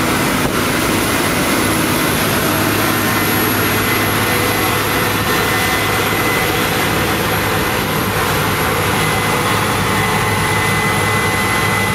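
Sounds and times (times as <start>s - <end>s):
combine harvester engine drone: 0.0s - 11.9s
constant high whine: 0.0s - 11.9s.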